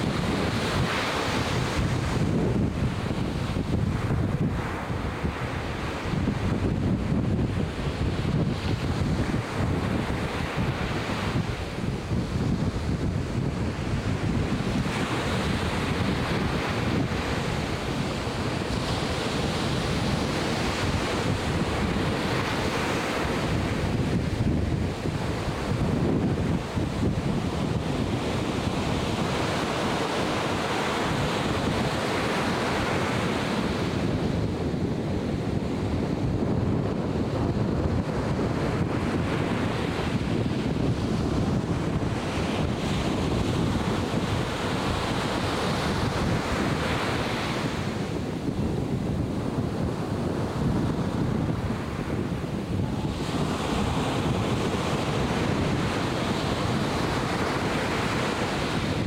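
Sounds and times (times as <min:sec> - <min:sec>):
ocean surf breaking: 0:00.0 - 0:59.0
wind on microphone: 0:00.0 - 0:59.0.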